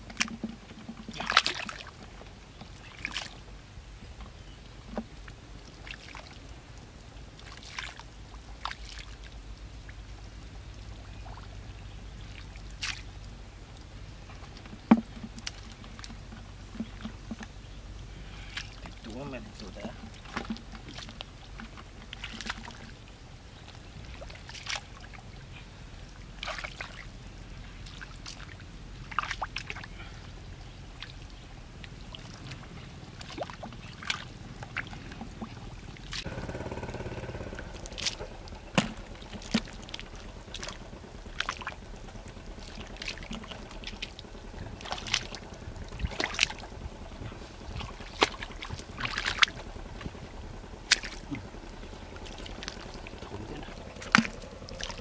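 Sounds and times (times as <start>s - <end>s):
splashing in muddy water: 0.0s - 3.5s, 4.4s - 6.5s, 7.2s - 55.0s.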